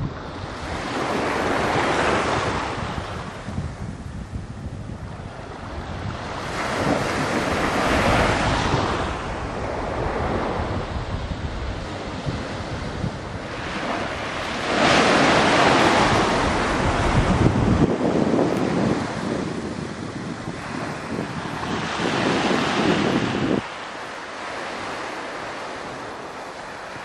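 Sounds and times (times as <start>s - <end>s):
wind buffeting the microphone: 0.0s - 27.0s.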